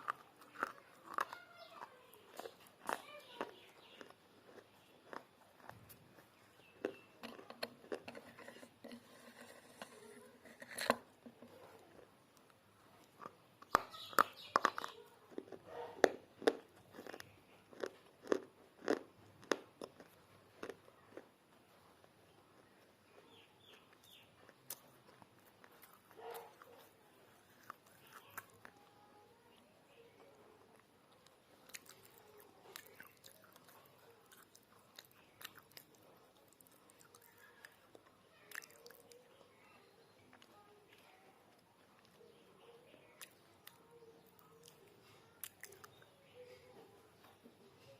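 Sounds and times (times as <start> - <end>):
person chewing crunchy clay: 0.0 - 42.3, 43.2 - 46.1.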